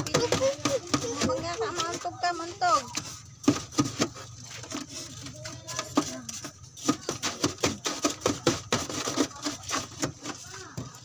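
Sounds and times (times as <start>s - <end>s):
knocks and scrapes of hands working: 0.0s - 11.0s.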